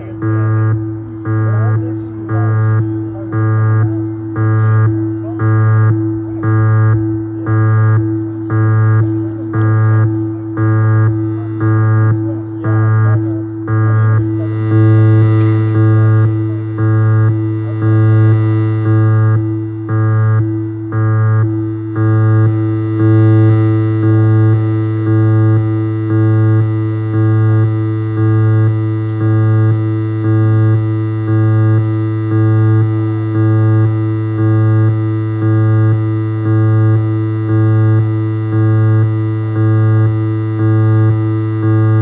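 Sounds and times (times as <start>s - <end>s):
pulsing synth chord: 0.0s - 42.0s
synthesizer loop with low tone: 0.0s - 42.0s.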